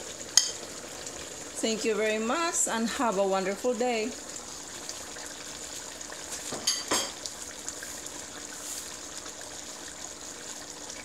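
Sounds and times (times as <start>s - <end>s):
sauce simmering in a pot: 0.0s - 11.0s.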